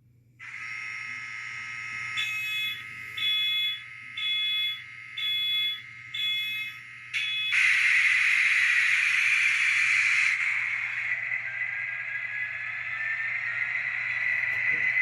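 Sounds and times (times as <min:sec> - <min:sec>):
high whine: 0:00.4 - 0:15.0
pulsing alarm beep: 0:00.4 - 0:15.0.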